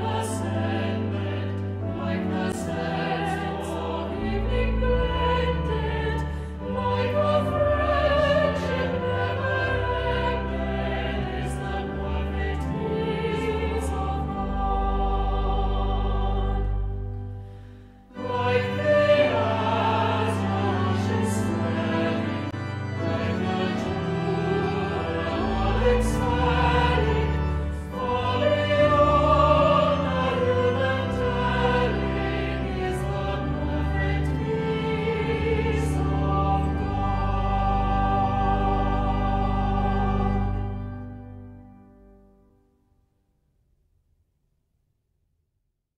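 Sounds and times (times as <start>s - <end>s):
choir singing a hymn: 0.0s - 41.5s.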